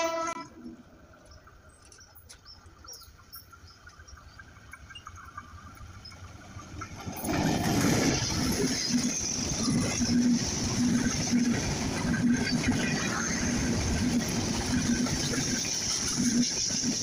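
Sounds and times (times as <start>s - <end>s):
approaching train: 0.0s - 17.0s.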